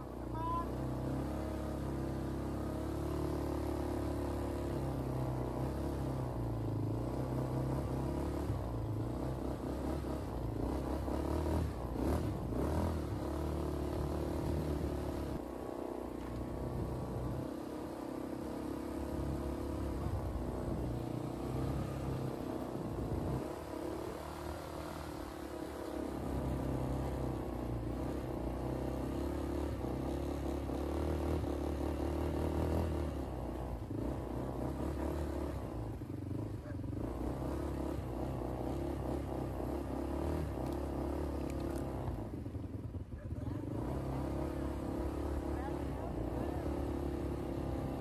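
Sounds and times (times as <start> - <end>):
quad bike engine revving: 0.0 - 48.0.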